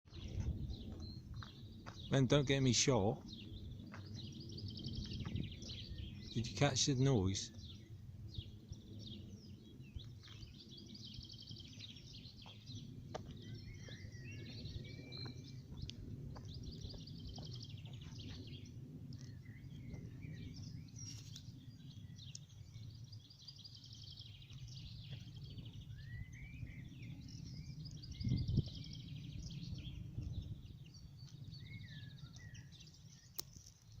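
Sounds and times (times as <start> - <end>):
small birds chirping: 0.1 - 34.0
steady low rumble: 0.1 - 34.0.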